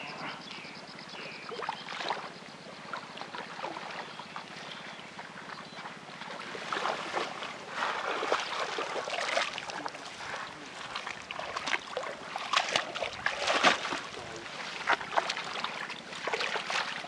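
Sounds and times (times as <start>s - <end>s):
water splashing and sloshing: 1.4s - 17.0s.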